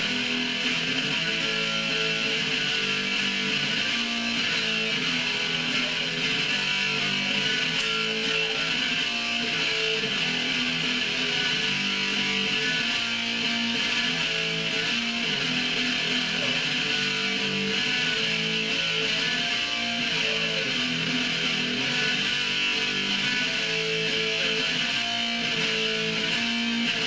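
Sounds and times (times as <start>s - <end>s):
fuzz electric guitar strumming chords: 0.0s - 27.0s.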